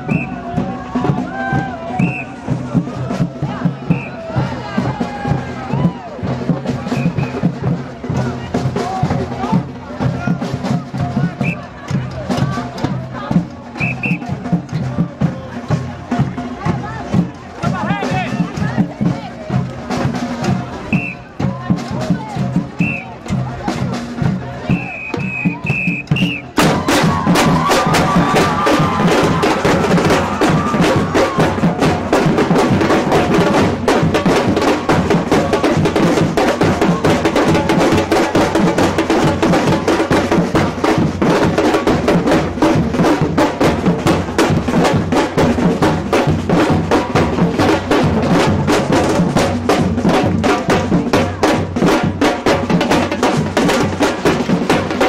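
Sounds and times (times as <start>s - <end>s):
deep bass drums: 0.0s - 55.0s
samba percussion drumming: 0.0s - 55.0s.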